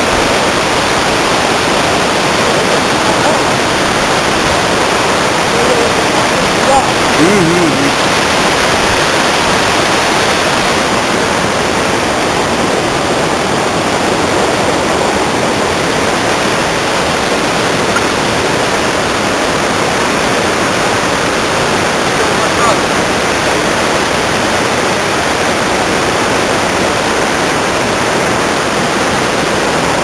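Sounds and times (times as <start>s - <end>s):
water rushing over boulders: 0.0s - 30.0s.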